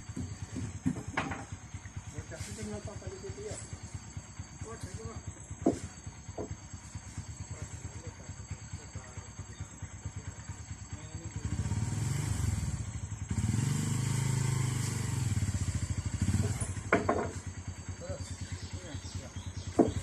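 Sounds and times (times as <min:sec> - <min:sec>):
small engine idling and revving: 0:00.0 - 0:20.0.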